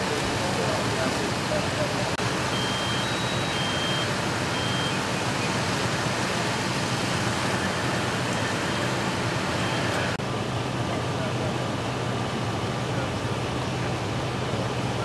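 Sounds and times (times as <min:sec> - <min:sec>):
fire engine droning: 0:00.0 - 0:15.0
fire hose spraying water: 0:00.0 - 0:15.0.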